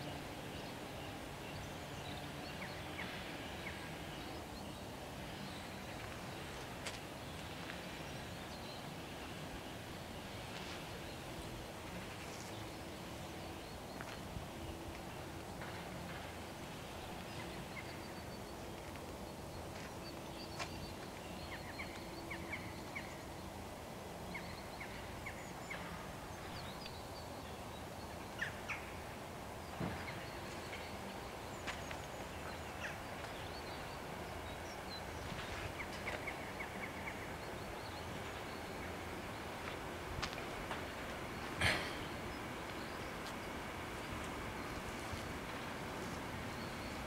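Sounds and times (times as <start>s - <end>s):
small birds chirping: 0.0s - 47.0s
steady background noise: 0.0s - 47.0s.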